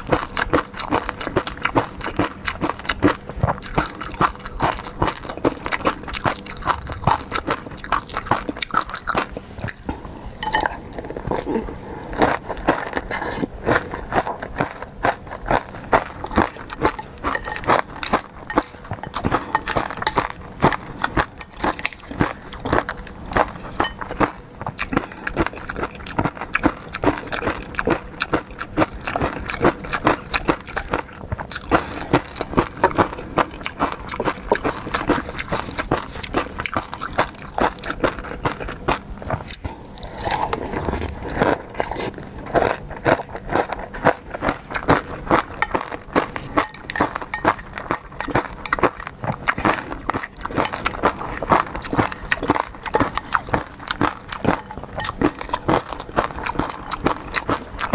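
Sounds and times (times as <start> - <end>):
chewing and biting seafood: 0.0 - 57.9.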